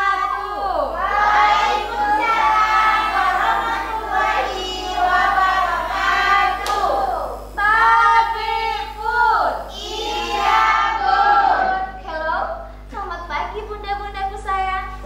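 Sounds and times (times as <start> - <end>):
women singing children's song: 0.0 - 14.8
low electrical hum: 0.0 - 15.0.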